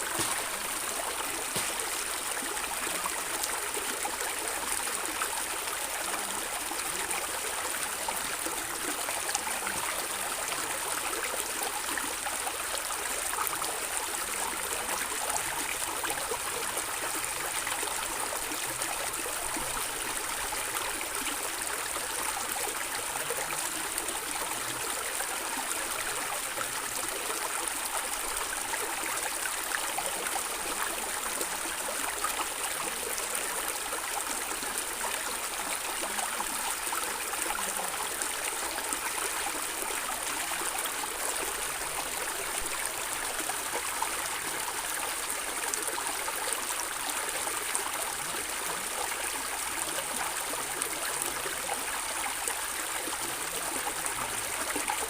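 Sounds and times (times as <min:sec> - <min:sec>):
stream of water gurgling: 0:00.0 - 0:55.0.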